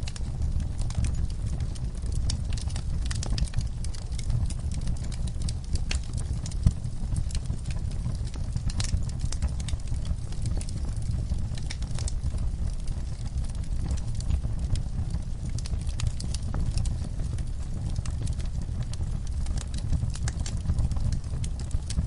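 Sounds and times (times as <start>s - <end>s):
low fire rumble: 0.0s - 22.0s
wood fire crackling: 0.0s - 22.0s.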